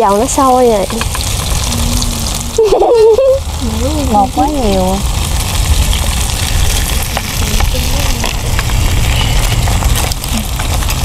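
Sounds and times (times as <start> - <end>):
fritters sizzling in oil: 0.0 - 11.0
low rumble: 0.0 - 11.0.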